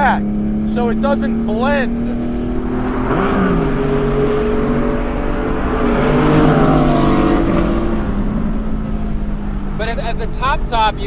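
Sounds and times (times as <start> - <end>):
car engine revving under load: 0.0 - 11.0.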